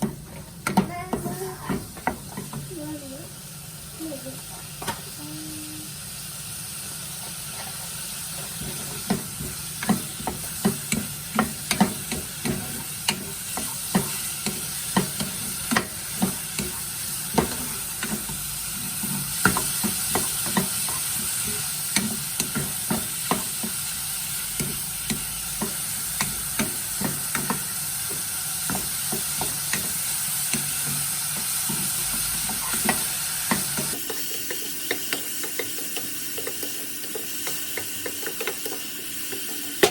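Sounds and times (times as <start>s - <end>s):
utensil tapping against pan: 0.0s - 2.7s, 8.4s - 39.9s
food sizzling in a pan: 0.0s - 39.9s.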